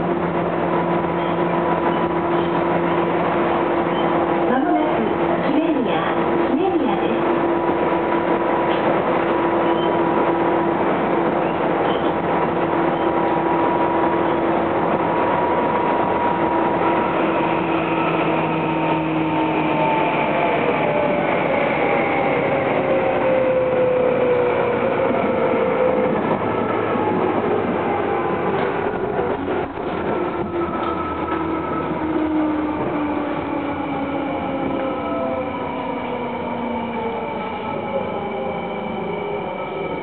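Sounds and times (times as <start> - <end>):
train wheels on rail: 0.0 - 40.0.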